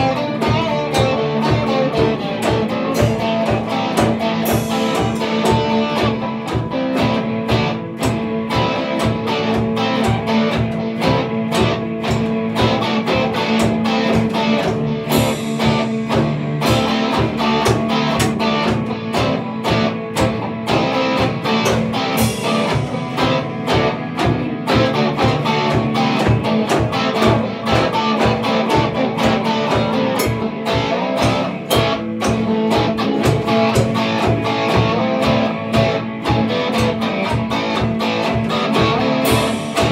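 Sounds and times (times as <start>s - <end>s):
drum beat: 0.0s - 39.9s
electric guitars playing rock: 0.0s - 39.9s.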